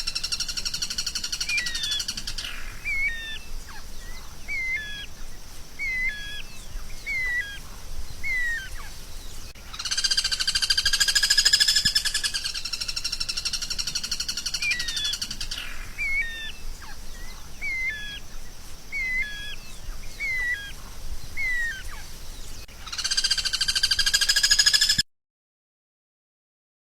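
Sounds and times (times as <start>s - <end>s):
bird buzzing trill: 0.0s - 25.0s
songbird chirping: 0.0s - 25.0s.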